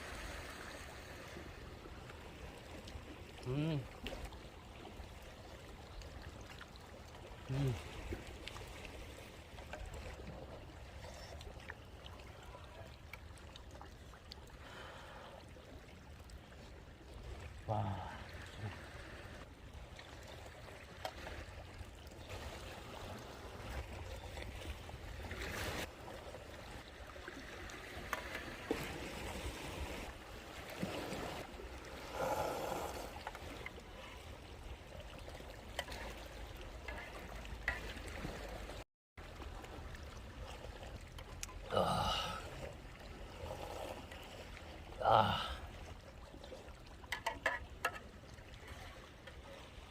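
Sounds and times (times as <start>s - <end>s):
sea water washing: 0.0s - 49.9s.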